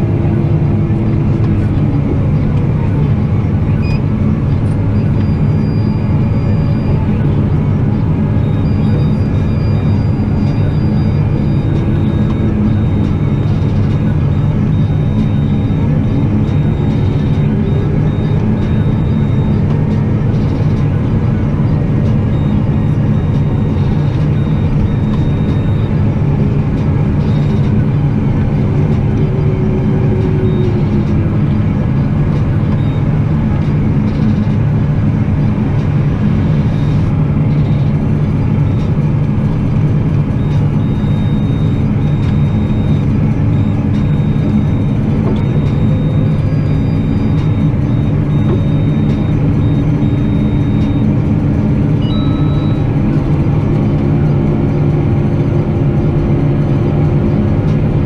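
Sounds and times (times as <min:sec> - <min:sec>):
tractor diesel engine drone: 0:00.0 - 0:58.0.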